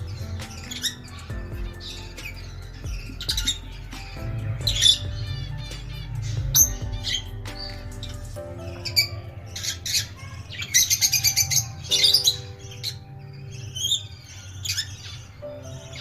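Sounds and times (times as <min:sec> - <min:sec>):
background music: 0:00.0 - 0:16.0
lovebirds chirping and squawking: 0:00.0 - 0:16.0.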